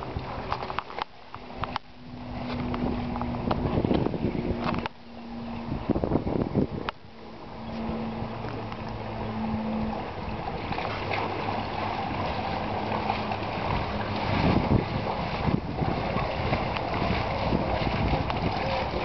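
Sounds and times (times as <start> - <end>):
splashing through shallow water: 0.0 - 19.0
wind buffeting microphone: 0.0 - 19.0.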